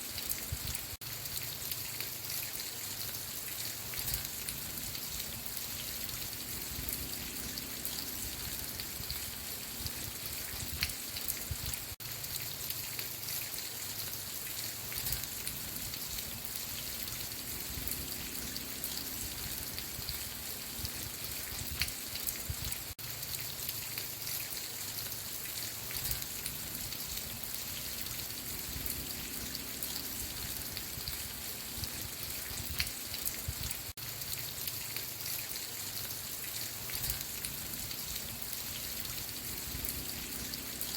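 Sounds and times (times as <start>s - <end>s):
rain hiss: 0.0s - 40.9s
raindrop ticks: 0.1s - 40.9s.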